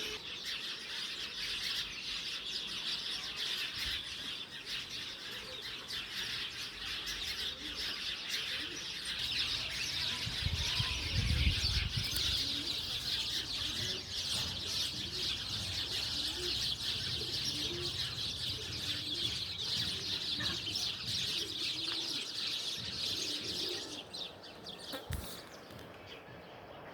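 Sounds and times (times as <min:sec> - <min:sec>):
chorus of small birds chirping: 0:00.0 - 0:26.9.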